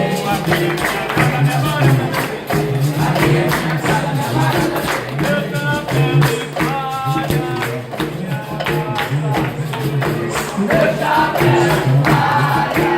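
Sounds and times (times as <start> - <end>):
people singing: 0.0 - 12.9
tambourine and hand percussion: 0.0 - 12.9.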